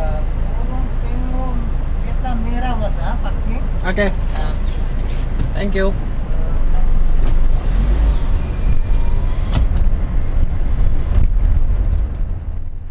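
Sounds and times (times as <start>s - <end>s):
engine and road rumble: 0.0s - 12.9s.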